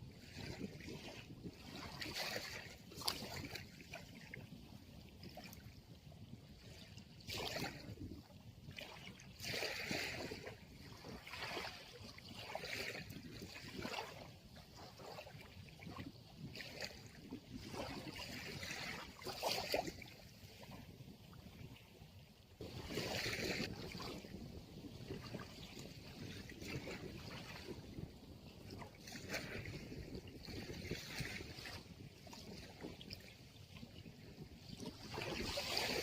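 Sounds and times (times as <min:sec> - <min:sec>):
small sea waves on shore: 0:00.1 - 0:36.0.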